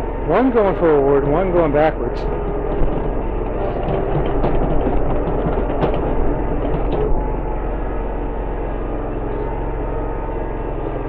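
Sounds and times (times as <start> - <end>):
ride-on mower engine drone: 0.0 - 11.0.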